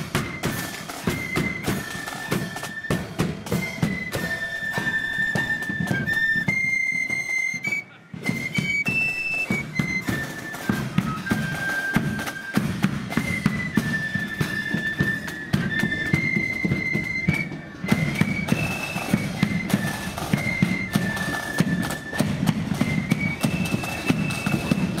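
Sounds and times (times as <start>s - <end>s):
drums and cymbals: 0.0s - 25.0s
massed flutes playing melody: 0.0s - 25.0s.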